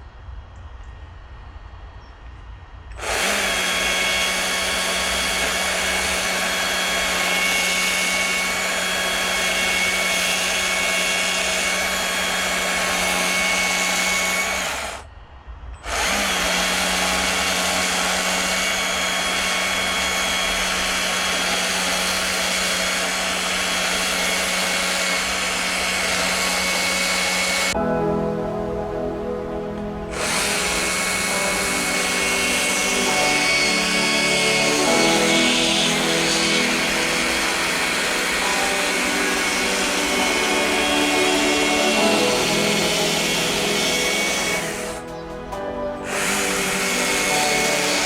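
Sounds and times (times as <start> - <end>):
chainsaw running: 3.0 - 15.0, 15.8 - 29.0, 30.1 - 48.0.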